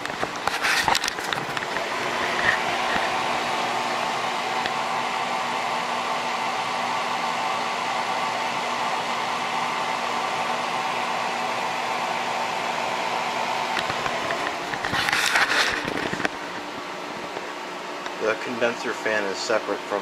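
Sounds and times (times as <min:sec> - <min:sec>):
air conditioner fan running: 0:00.0 - 0:20.0.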